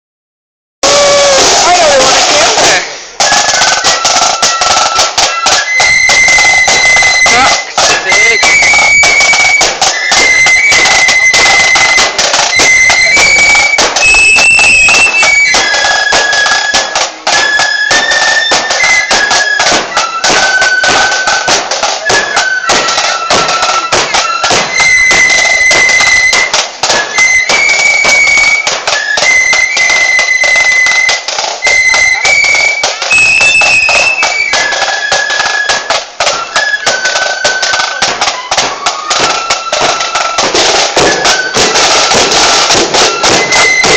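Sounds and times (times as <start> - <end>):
drumming: 0.8 - 43.9
high-pitched wind instruments melody: 0.8 - 43.9.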